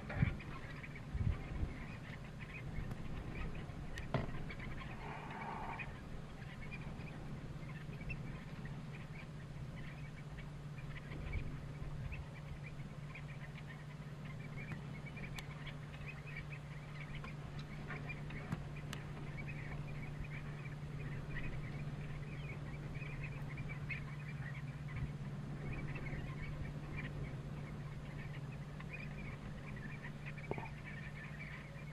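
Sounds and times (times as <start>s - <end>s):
shorebirds calling softly: 0.0s - 31.9s
steady low hum: 0.0s - 31.9s.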